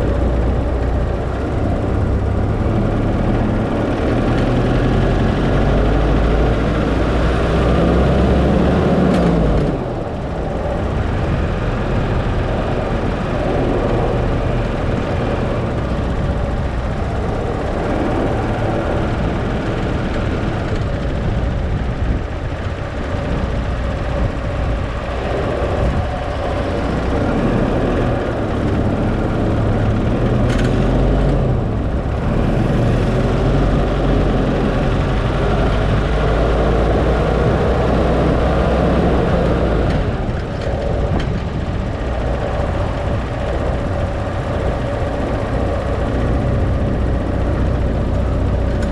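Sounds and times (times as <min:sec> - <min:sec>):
car engine: 0:00.0 - 0:48.9
road noise: 0:00.0 - 0:48.9.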